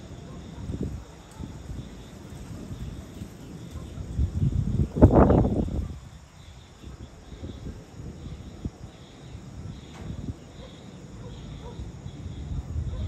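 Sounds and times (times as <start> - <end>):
wind buffeting microphone: 0.0 - 10.6, 11.4 - 13.0
insects chirping: 0.0 - 13.0.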